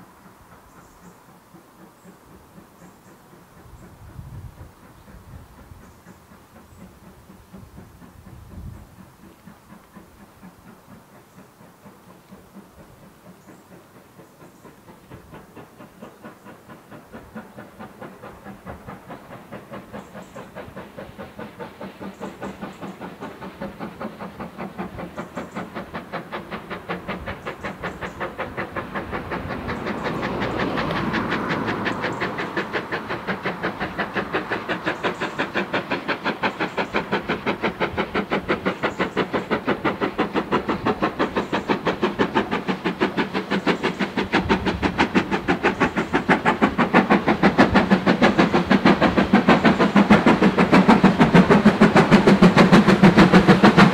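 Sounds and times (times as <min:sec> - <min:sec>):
steam locomotive chimney exhaust beating: 0:00.0 - 0:53.9.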